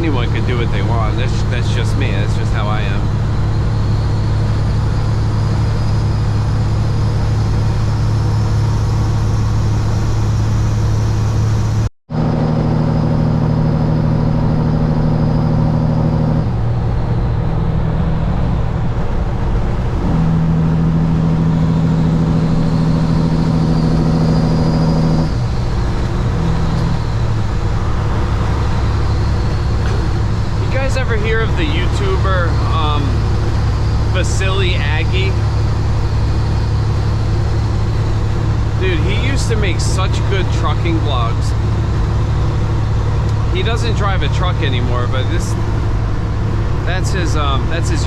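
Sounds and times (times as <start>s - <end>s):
truck diesel engine droning: 0.0s - 48.0s.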